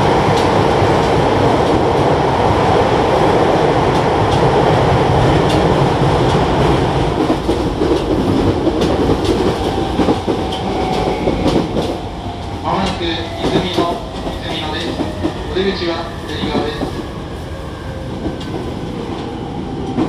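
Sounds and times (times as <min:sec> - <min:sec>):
track clacks: 0:00.0 - 0:17.1
train wheels rumbling in tunnel: 0:00.0 - 0:20.0.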